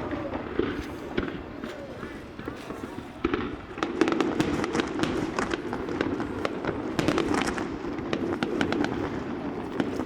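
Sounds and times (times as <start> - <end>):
fireworks crackling pops: 0.0 - 10.0.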